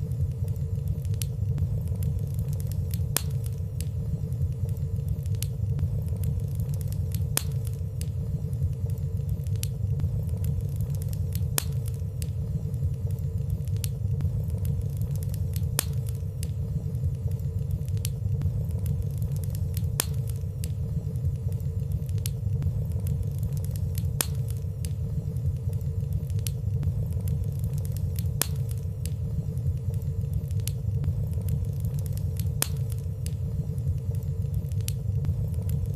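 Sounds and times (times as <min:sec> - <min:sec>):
faint steady hum: 0:00.0 - 0:35.9
fire burning rumble: 0:00.0 - 0:35.9
fire crackles: 0:00.0 - 0:35.9.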